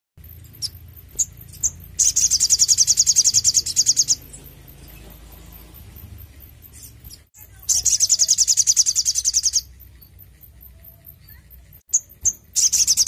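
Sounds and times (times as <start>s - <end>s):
bird chirps and trill: 0.2s - 13.0s.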